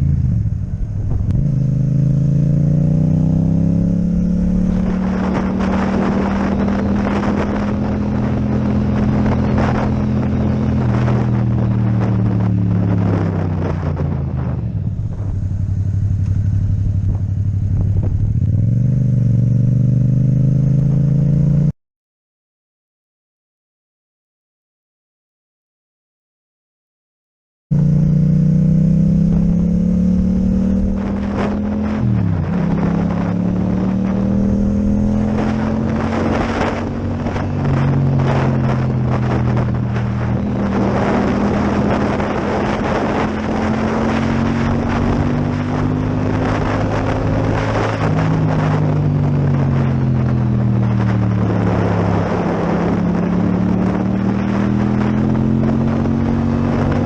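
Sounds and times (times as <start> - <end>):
motorcycle engine revving: 0.0 - 21.7, 27.7 - 57.0
wind noise: 0.0 - 21.7, 27.7 - 57.0.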